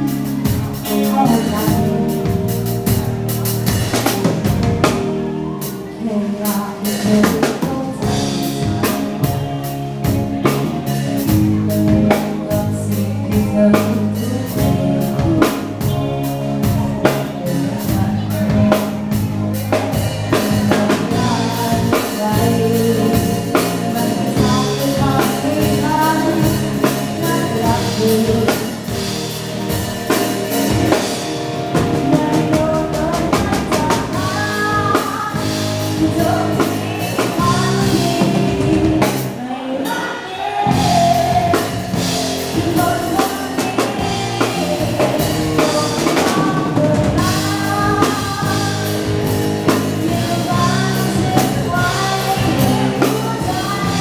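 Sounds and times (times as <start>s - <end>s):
live band playing dance song: 0.0s - 54.0s
person singing: 0.0s - 54.0s.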